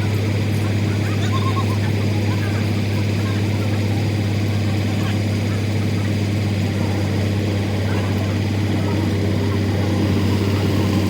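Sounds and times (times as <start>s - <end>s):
low machine hum: 2.0s - 11.0s.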